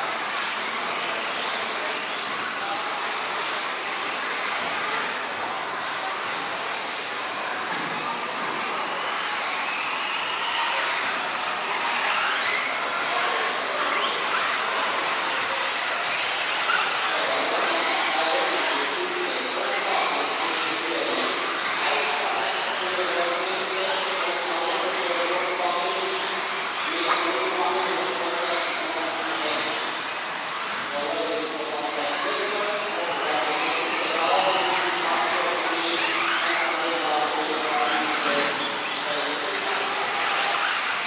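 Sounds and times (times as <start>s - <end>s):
rc car electric motors whining: 0.0s - 31.4s, 32.2s - 41.0s.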